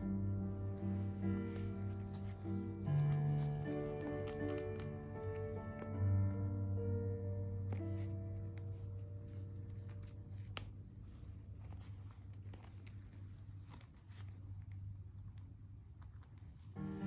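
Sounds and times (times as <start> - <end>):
paper rustling: 0.8 - 6.0, 7.6 - 17.0.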